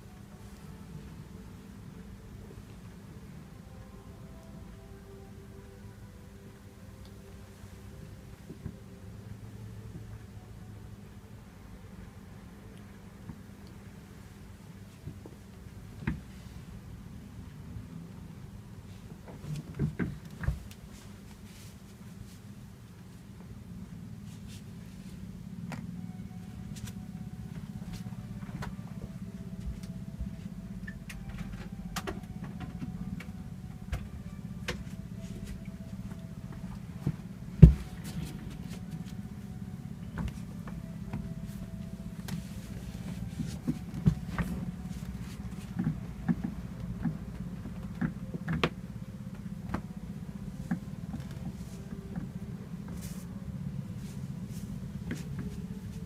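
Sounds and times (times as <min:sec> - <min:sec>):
low room hum: 0:00.0 - 0:56.0.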